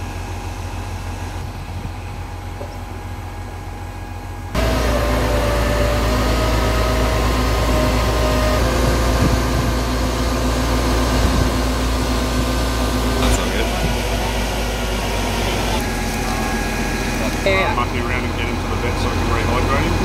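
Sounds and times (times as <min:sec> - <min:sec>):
crane diesel engine drone: 0:00.0 - 0:20.0
thin steady whine: 0:00.0 - 0:20.0.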